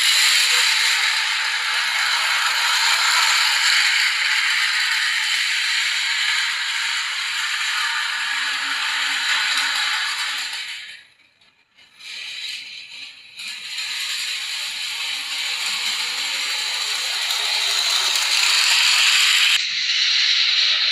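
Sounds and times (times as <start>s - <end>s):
toy train motor whirring: 0.0s - 20.9s.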